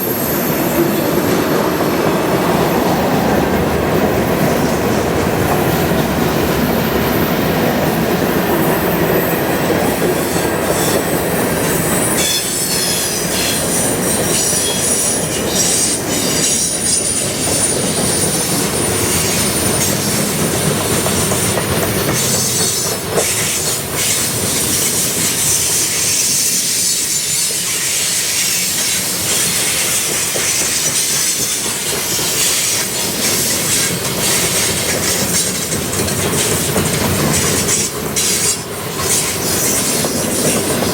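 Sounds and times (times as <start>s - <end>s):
train wheels clacking over rail joints: 3.6s - 40.9s.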